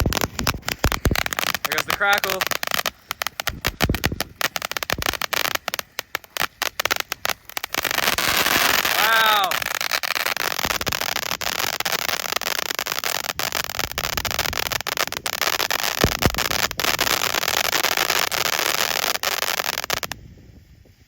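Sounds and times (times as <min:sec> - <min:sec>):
fountain fireworks hissing and crackling: 0:00.0 - 0:21.0.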